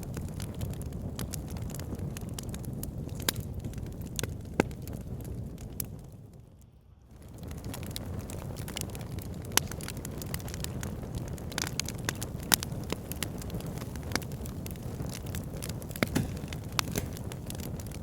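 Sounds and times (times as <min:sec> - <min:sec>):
fire popping: 0:00.0 - 0:06.5, 0:07.1 - 0:18.0
low rumble of flames: 0:00.0 - 0:18.0
wood fire crackling: 0:00.0 - 0:18.0.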